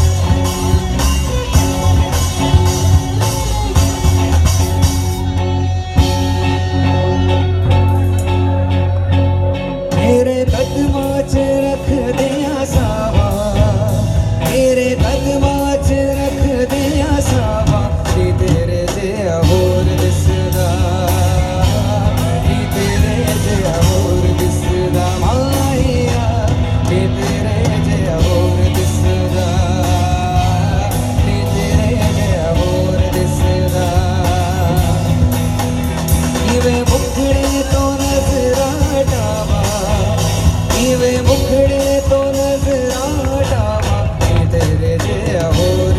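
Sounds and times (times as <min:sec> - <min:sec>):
bass guitar: 0:00.0 - 0:45.9
distorted electric guitars: 0:00.0 - 0:45.9
drum kit beat: 0:00.0 - 0:45.9
person singing: 0:00.0 - 0:45.9.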